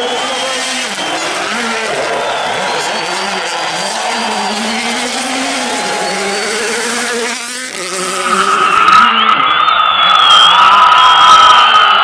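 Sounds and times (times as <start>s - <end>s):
rally car engine at high revs: 0.0s - 11.8s.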